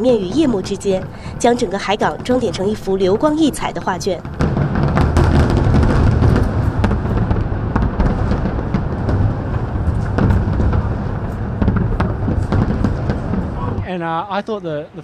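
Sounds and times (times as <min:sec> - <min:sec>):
fireworks bangs and crackles: 0:00.0 - 0:13.9.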